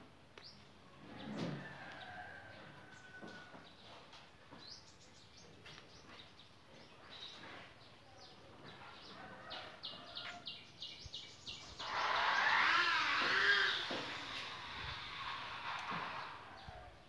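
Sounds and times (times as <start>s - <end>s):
small birds chirping: 2.9s - 16.8s.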